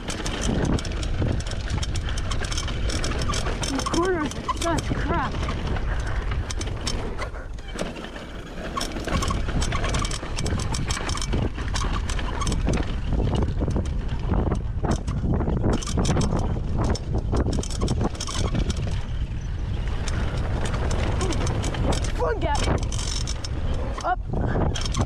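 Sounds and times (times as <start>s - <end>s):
wind buffeting microphone: 0.0s - 7.7s, 8.7s - 25.0s
bike clicking and rattling: 0.0s - 25.0s.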